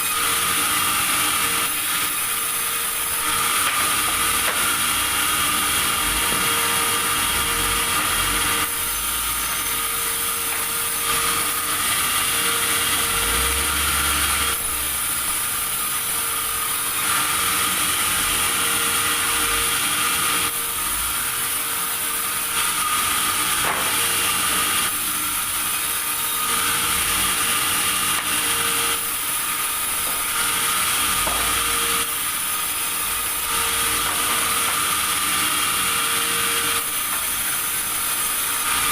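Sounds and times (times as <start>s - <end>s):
sawmill saw cutting timber: 0.0s - 38.9s.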